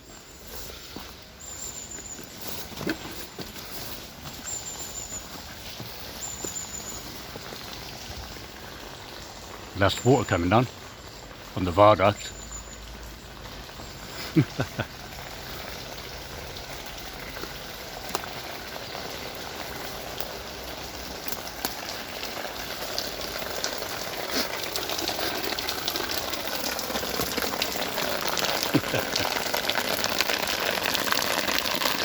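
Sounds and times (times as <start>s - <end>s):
rainwater splashing on ground: 0.0s - 32.0s
water dripping: 0.0s - 32.0s.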